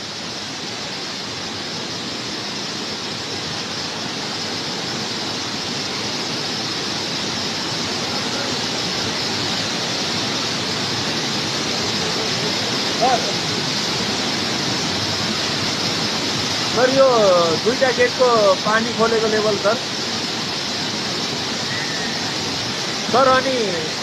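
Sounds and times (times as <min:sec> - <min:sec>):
water rushing through dam gates: 0:00.0 - 0:24.0.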